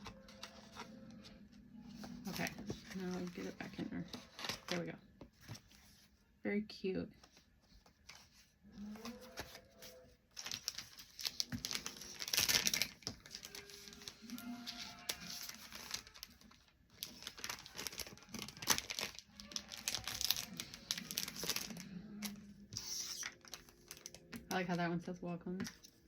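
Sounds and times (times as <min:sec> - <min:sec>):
plastic packaging crinkling: 0:00.0 - 0:05.8, 0:07.9 - 0:24.7.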